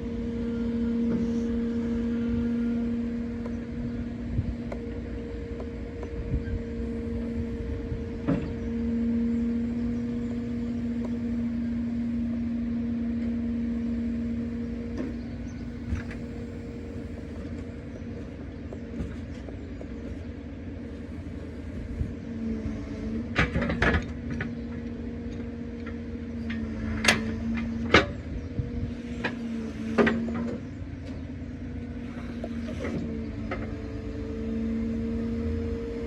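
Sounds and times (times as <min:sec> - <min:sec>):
truck engine running: 0:00.0 - 0:36.0
crane knocks and clanks: 0:00.1 - 0:36.0.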